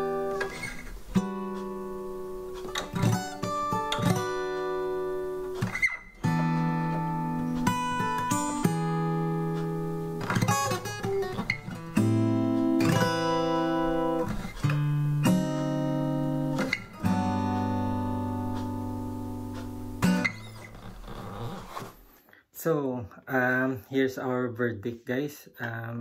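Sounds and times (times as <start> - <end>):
acoustic guitar strummed chords: 0.0 - 22.0.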